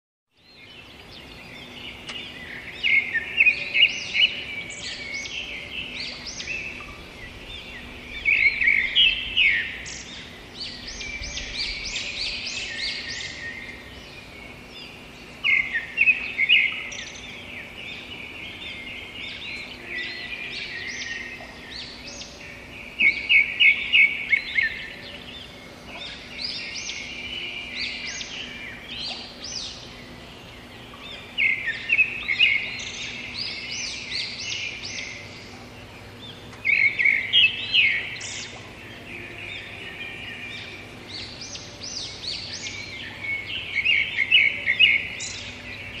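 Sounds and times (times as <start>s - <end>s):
songbirds chirping: 0.3s - 46.0s
faint steady hum: 0.4s - 46.0s.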